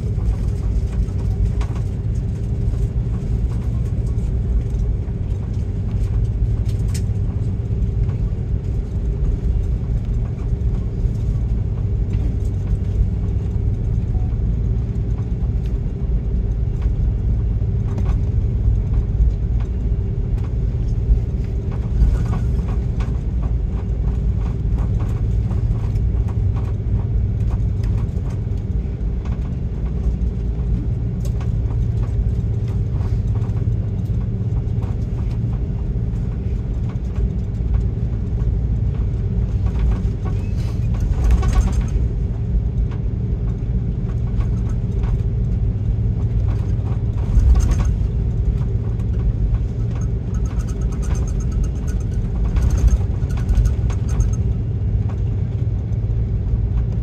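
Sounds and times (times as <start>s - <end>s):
aircraft cabin rumble: 0.0s - 57.0s
constant hum: 0.0s - 57.0s.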